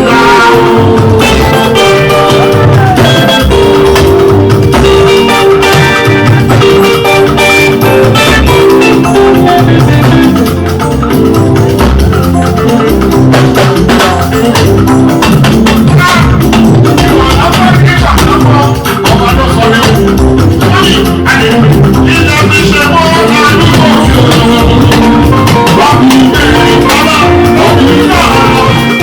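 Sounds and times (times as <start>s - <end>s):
instrumental band music: 0.0s - 29.0s.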